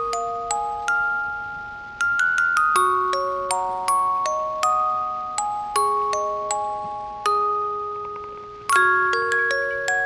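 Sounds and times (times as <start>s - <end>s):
glockenspiel lullaby melody: 0.0s - 10.0s.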